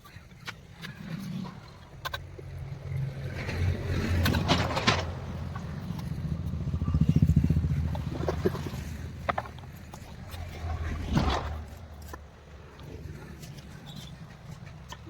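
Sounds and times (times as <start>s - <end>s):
engine pulsing rumble: 0.0s - 15.0s.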